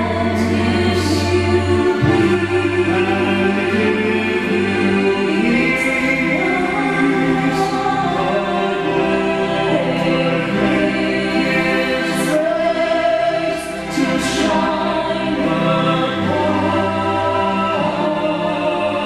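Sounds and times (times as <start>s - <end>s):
group of singers singing a hymn: 0.0s - 19.0s.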